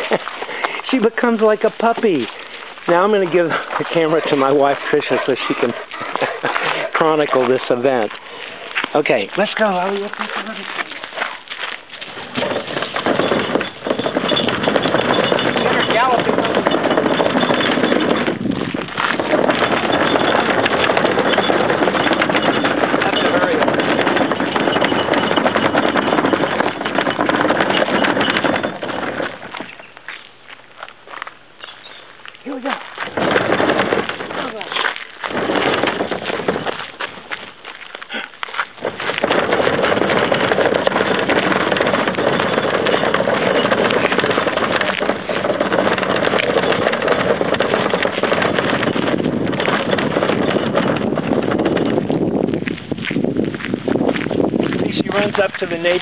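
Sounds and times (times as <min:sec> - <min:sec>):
bin wheels rolling on gravel: 0:00.0 - 0:56.0.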